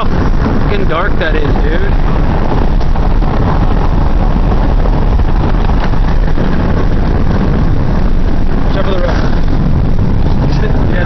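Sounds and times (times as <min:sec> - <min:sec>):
car road and engine noise: 0:00.0 - 0:11.0
wind buffeting microphone: 0:00.0 - 0:11.0.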